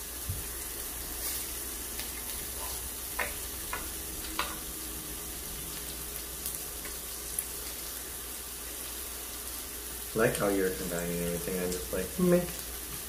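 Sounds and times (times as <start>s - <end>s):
pork sizzling on a grill: 0.0s - 13.0s.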